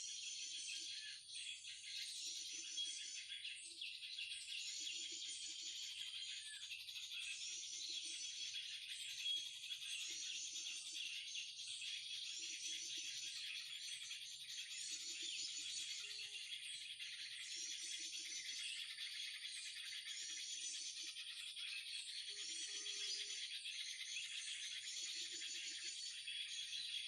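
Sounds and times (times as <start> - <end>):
small birds chirping in chorus: 0.0 - 27.0.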